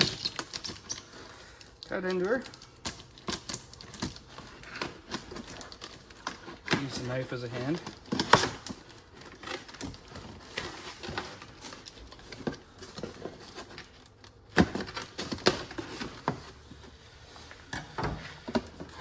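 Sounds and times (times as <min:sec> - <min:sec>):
knocks scrapes and rustles: 0:03.3 - 0:19.0.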